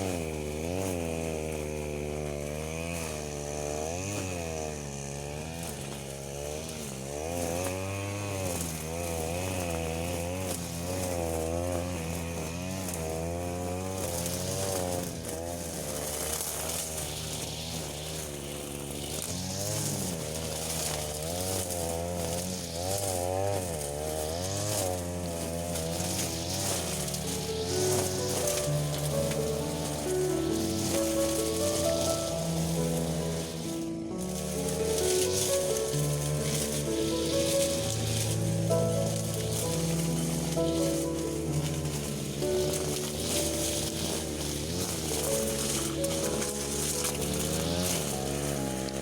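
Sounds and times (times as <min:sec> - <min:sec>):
two-stroke power tool engine cutting: 0:00.0 - 0:49.0.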